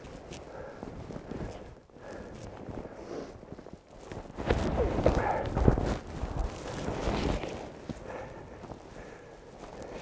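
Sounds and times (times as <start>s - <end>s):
nylon jacket and straps rustling: 0.0s - 9.0s.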